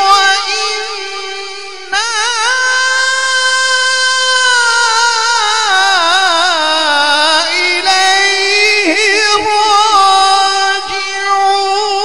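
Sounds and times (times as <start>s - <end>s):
man chanting melodically into microphone: 0.0s - 12.0s.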